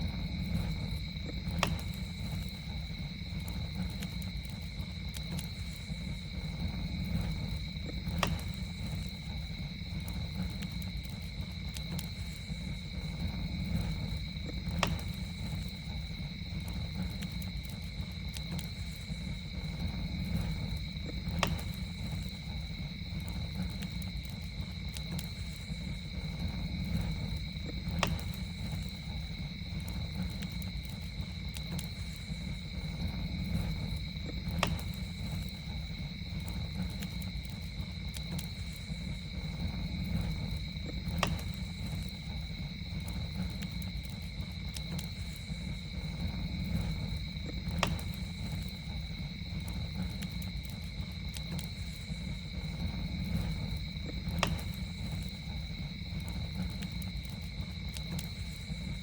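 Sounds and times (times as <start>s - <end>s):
campfire rumble: 0.0s - 59.0s
fire crackling pops: 0.0s - 59.0s
insect trill: 0.0s - 59.0s.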